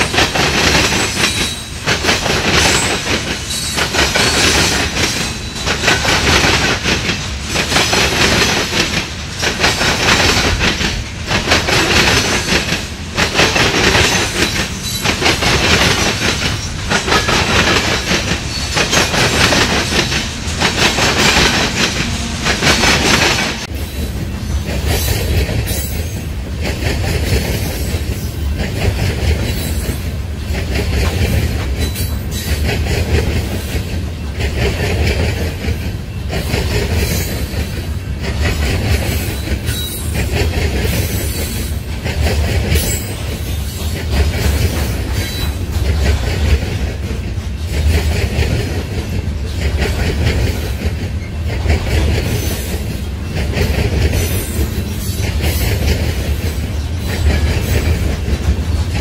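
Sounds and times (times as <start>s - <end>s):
freight train rumbling: 0.0s - 59.0s
wheels clattering over rail joints: 0.0s - 59.0s.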